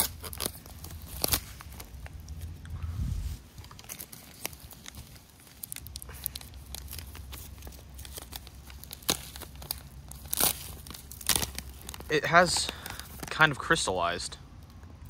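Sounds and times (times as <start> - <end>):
foil pouch tearing: 0.0 - 2.3, 3.5 - 13.3
foil pouch crinkling: 0.0 - 2.5, 3.5 - 13.8.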